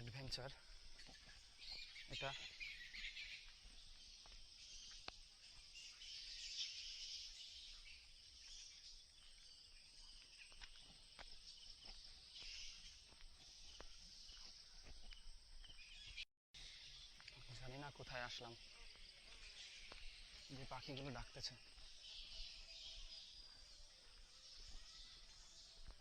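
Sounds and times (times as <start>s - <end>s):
insects and birds chorus: 0.0s - 26.0s.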